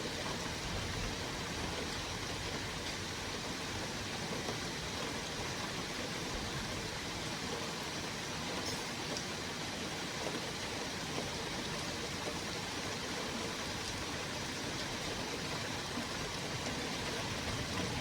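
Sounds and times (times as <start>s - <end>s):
heavy rain hiss: 0.0s - 18.0s.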